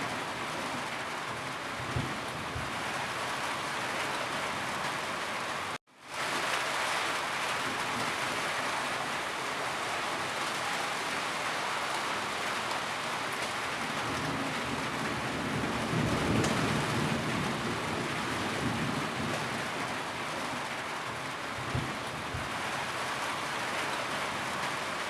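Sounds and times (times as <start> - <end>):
steady rainfall: 0.0 - 25.0.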